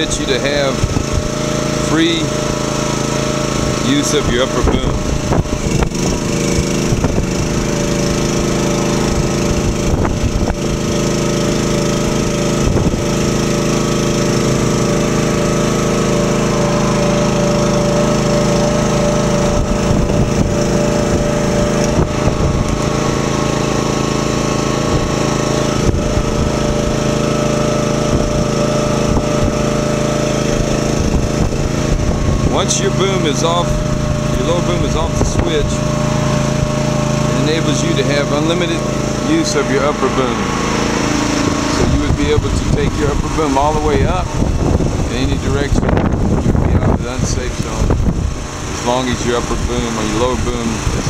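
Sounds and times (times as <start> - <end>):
small engine running steadily: 0.0 - 51.0.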